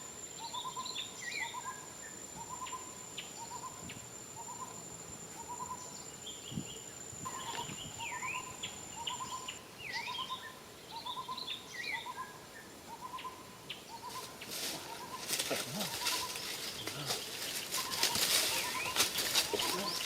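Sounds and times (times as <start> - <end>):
high insect whine: 0.0 - 20.0.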